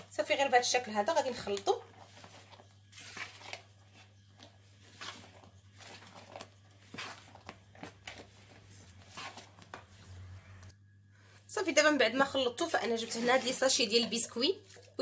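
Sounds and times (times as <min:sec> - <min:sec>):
spatula scraping cream in bowl: 0:01.0 - 0:10.7, 0:12.4 - 0:15.0.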